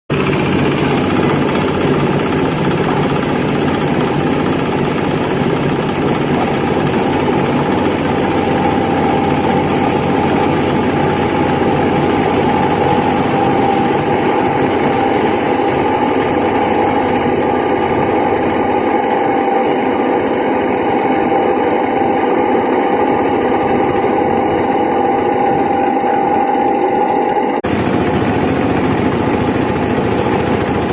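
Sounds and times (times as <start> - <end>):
feed grinding machine running: 0.1 - 30.9.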